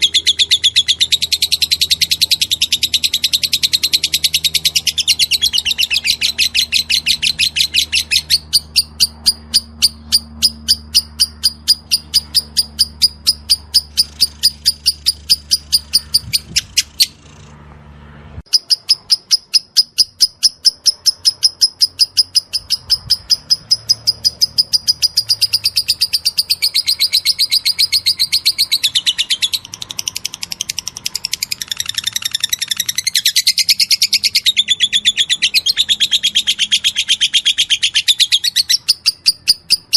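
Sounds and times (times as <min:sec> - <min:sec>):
lovebird trilling high chirps: 0:00.0 - 0:17.5, 0:18.5 - 0:39.9.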